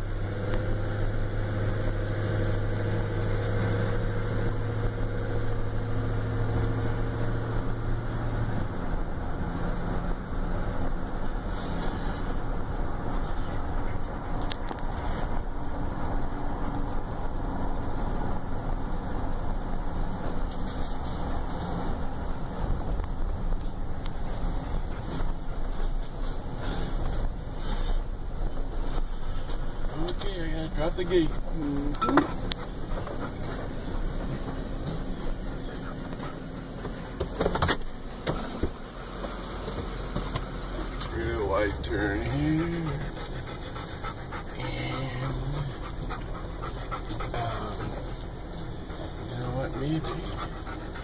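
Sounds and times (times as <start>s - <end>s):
vehicle engine and road rumble: 0.0s - 51.0s.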